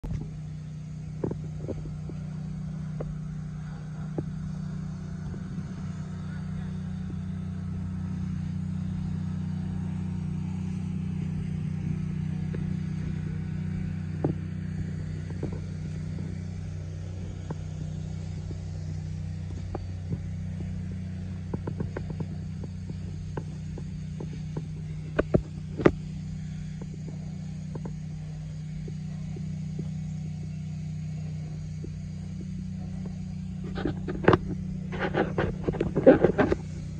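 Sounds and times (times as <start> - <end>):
tractor diesel engine idling: 0.0 - 36.9.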